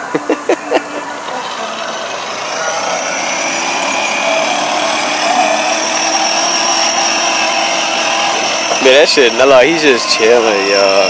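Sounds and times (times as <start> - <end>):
electric motors whining: 0.0 - 11.0
wheels rolling on concrete: 0.0 - 11.0.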